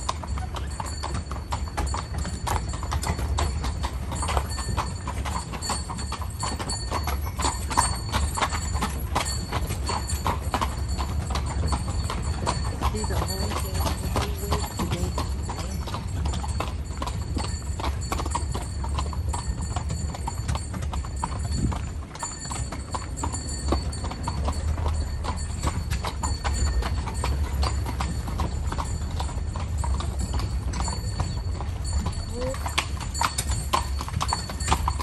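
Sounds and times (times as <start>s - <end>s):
horse hooves clip-clopping on road: 0.0s - 35.0s.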